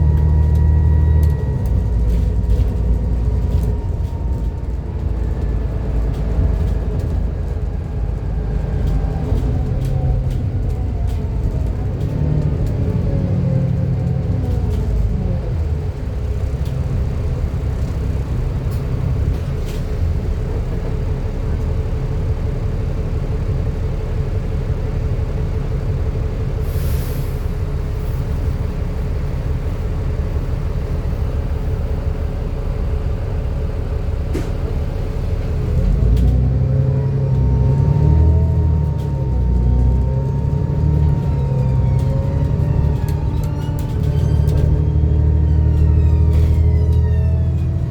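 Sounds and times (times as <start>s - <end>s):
bus engine rumble: 0.0s - 47.9s.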